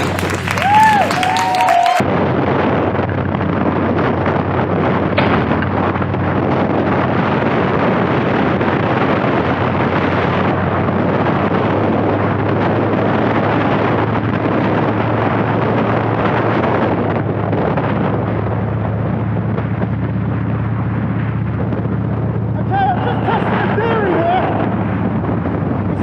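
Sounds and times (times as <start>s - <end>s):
motorcycle engine cruising: 0.0s - 26.0s
wind noise on microphone: 0.0s - 26.0s.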